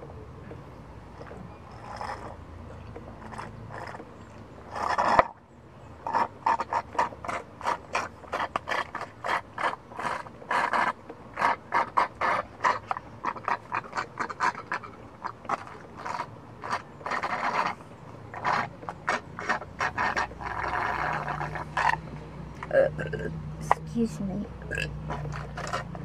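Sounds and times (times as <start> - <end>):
slurping through a straw: 1.0 - 23.8, 24.6 - 26.0.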